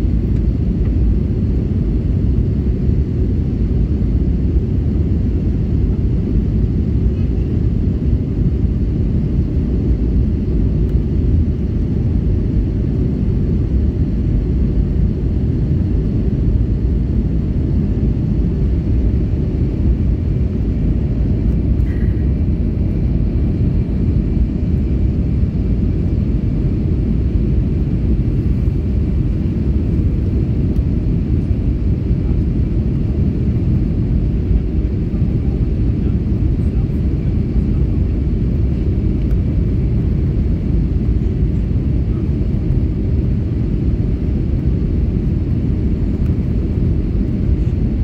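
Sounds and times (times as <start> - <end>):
airflow over fuselage: 0.0 - 48.0
jet engines droning: 0.0 - 48.0.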